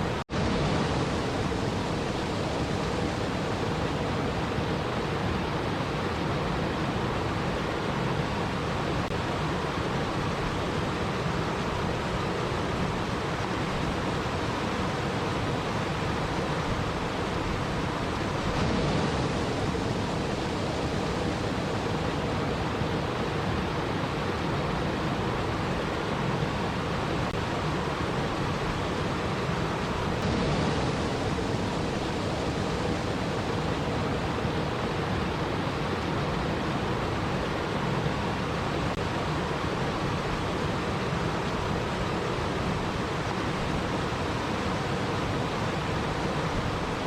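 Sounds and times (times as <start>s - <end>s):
flowing water rushing: 0.0s - 47.0s.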